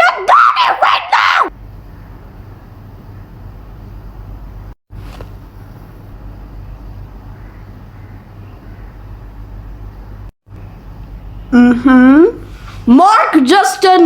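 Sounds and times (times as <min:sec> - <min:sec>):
low-pitched hum with hiss: 0:01.5 - 0:14.0.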